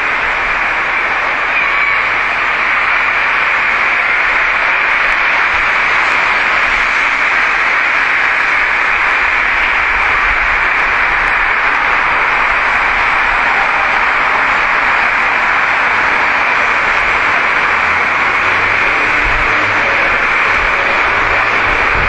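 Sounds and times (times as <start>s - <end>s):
steady recording hiss: 0.0s - 22.0s.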